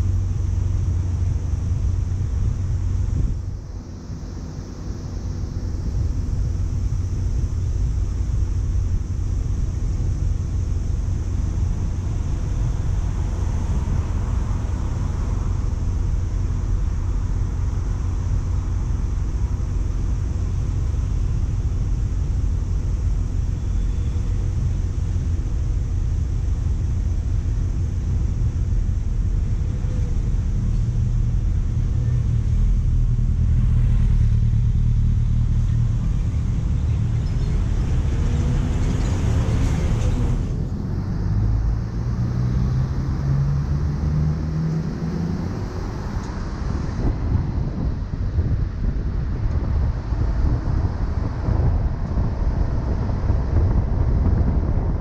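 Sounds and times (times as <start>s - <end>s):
car driving on highway: 0.0s - 55.0s.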